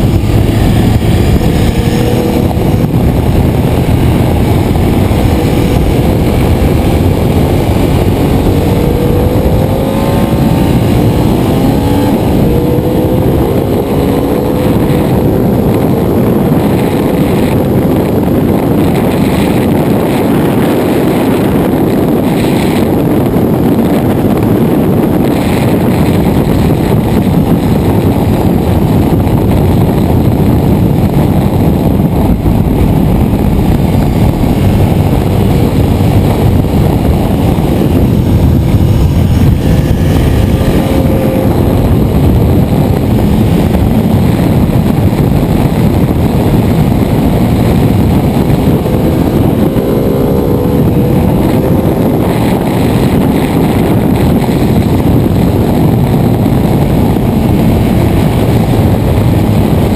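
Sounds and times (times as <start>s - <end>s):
motorcycle engine: 0.0s - 59.9s
wind rushing: 0.0s - 59.9s.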